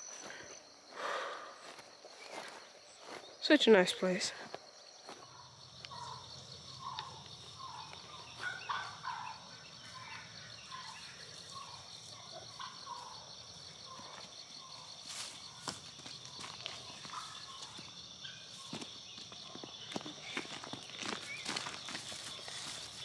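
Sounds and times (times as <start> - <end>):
insect chorus trilling: 0.0 - 23.0.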